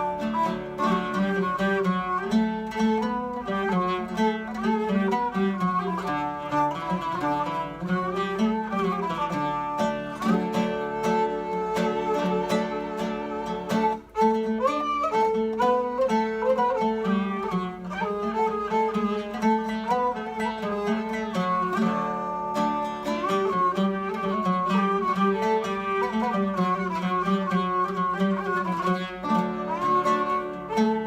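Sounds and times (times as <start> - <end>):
bowed string instrument: 0.0 - 31.0
plucked string instrument: 0.0 - 31.0.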